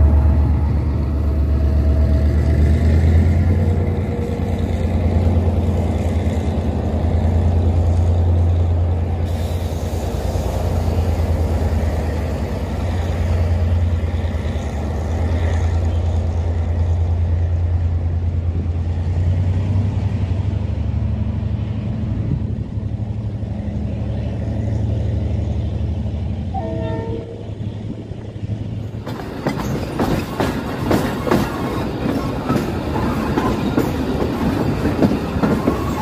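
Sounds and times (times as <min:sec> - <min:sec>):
diesel train engine droning: 0:00.0 - 0:36.0.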